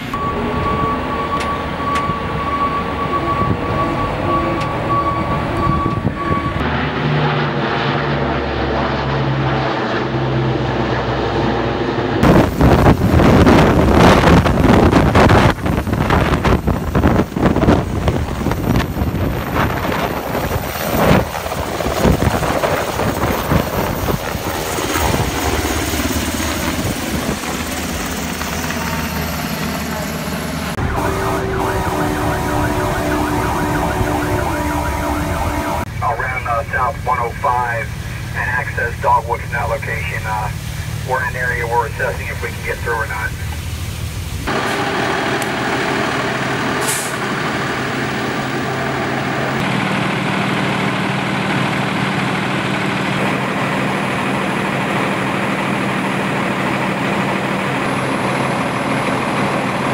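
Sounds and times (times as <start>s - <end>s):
helicopter rotor beating overhead: 0.0s - 43.6s, 44.4s - 59.9s
vehicle engine running: 5.6s - 59.9s.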